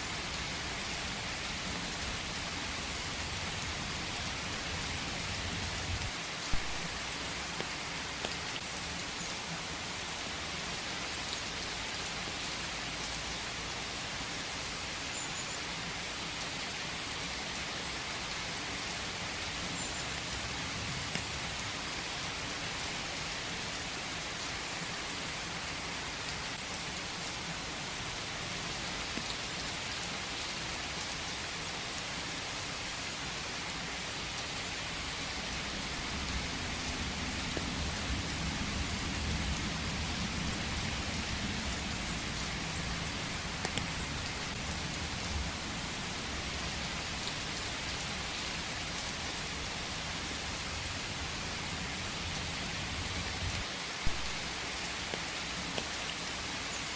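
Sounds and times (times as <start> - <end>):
rain falling in forest: 0.0 - 56.9.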